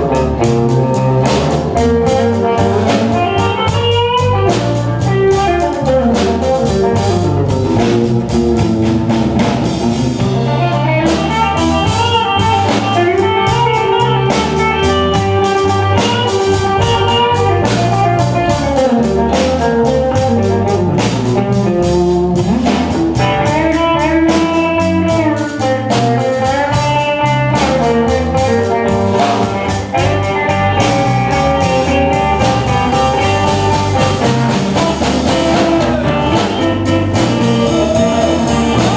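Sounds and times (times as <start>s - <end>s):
blues guitar with bending notes: 0.0s - 38.9s
drums: 0.0s - 38.9s.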